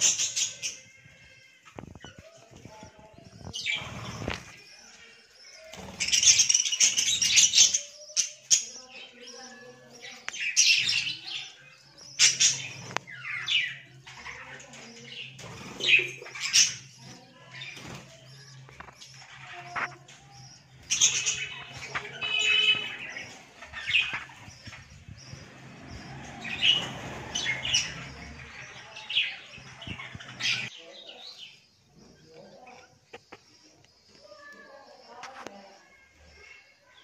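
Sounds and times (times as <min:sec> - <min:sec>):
budgerigars chirping: 0:01.8 - 0:35.3.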